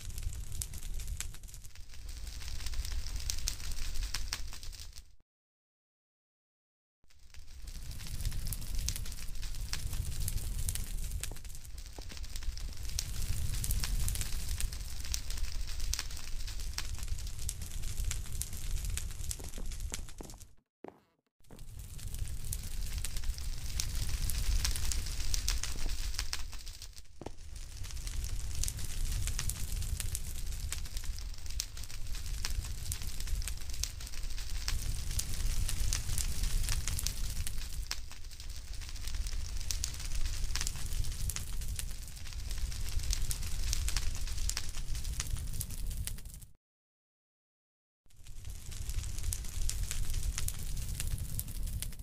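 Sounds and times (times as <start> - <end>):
fire crackling and popping: 0.0 - 5.2, 7.1 - 46.6, 48.1 - 52.0
low fire rumble: 0.0 - 5.2, 7.1 - 20.6, 21.4 - 46.6, 48.1 - 52.0.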